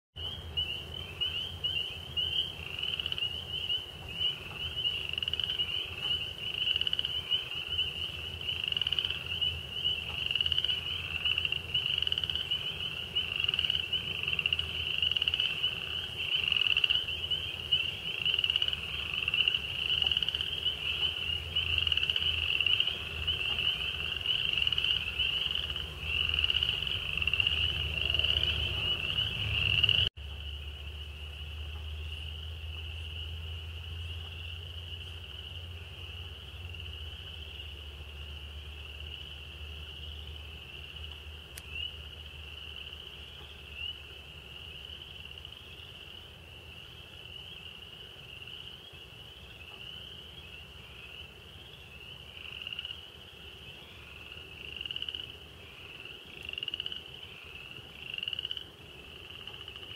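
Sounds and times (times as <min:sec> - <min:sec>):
chorus of frogs calling: 0:00.2 - 0:59.9.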